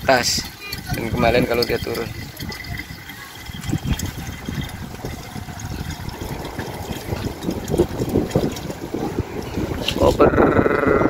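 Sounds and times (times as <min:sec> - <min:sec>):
low rumbling: 0:00.0 - 0:11.0
pump running: 0:00.0 - 0:11.0
water pouring into plastic bottle: 0:00.0 - 0:11.0.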